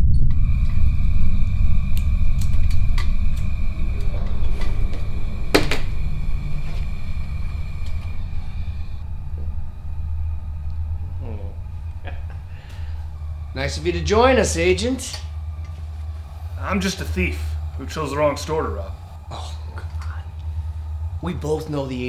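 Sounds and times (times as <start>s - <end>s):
low rumbling drone: 0.0s - 22.0s.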